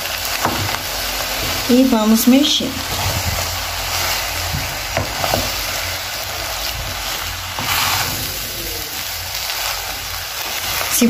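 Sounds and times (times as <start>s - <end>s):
pan sizzling: 0.0s - 11.0s.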